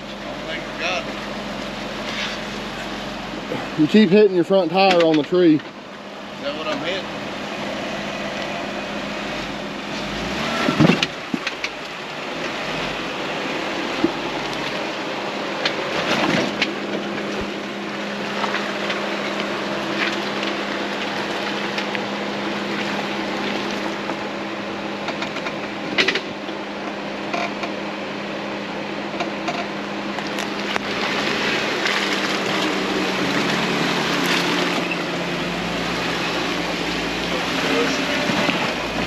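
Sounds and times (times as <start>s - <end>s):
car engine running at low revs: 0.0s - 39.0s.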